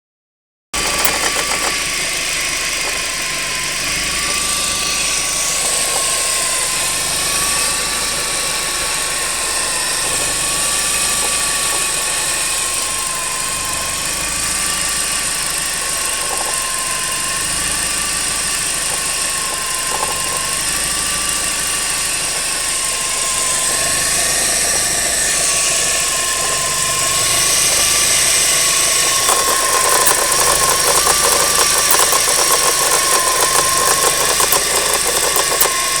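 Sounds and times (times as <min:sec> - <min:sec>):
fast ticking: 0:00.8 - 0:13.3, 0:15.3 - 0:36.0
car engine idling: 0:00.8 - 0:36.0
wavering engine whine: 0:00.8 - 0:36.0.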